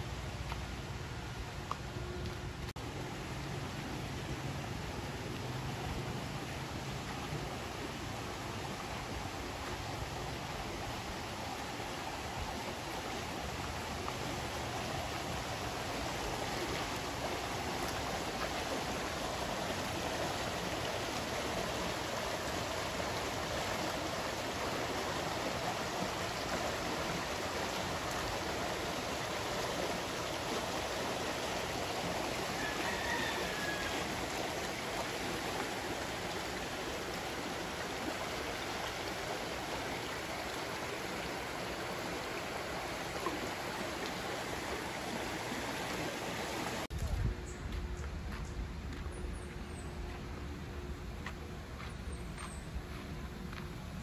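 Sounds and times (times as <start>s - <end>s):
spring water flowing: 2.7s - 46.9s.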